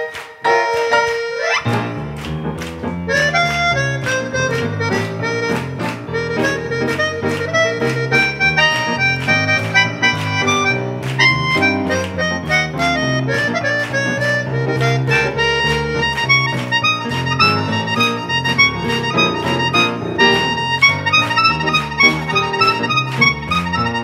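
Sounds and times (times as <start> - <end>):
reedy wind instrument melody: 0.0 - 2.3, 2.9 - 24.0
piano chords and runs: 0.0 - 24.0.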